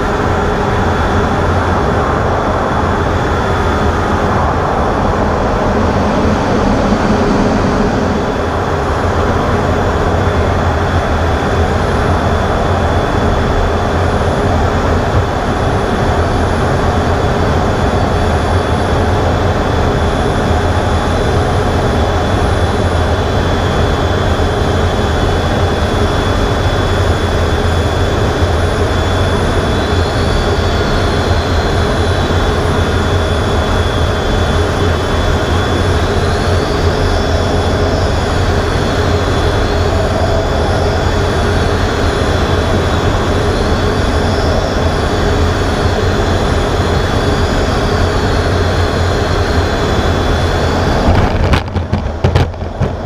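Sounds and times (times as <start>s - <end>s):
faint high whines: 0.0s - 53.0s
jet engine and airflow noise: 0.0s - 53.0s.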